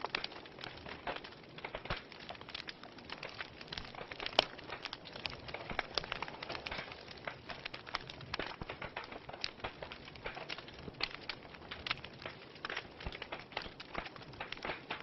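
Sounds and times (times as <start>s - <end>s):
fireplace fire crackling: 0.0s - 15.0s
soft steady hiss: 0.0s - 15.0s.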